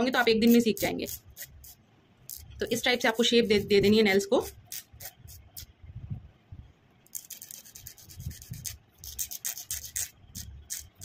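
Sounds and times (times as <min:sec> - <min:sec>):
nail file scraping: 0:00.1 - 0:05.7, 0:07.1 - 0:11.0.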